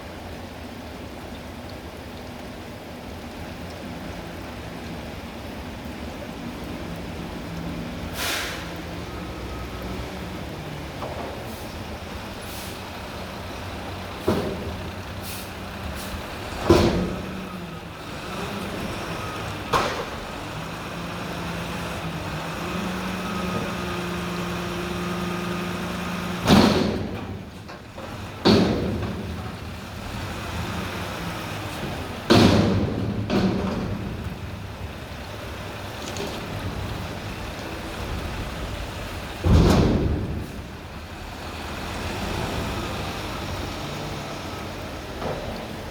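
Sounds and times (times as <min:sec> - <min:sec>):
garbage truck diesel engine: 0:00.0 - 0:45.9.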